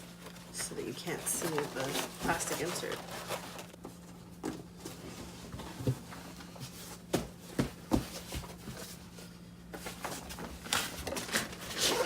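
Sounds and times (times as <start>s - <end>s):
fabric bin rustling: 0.0s - 12.0s.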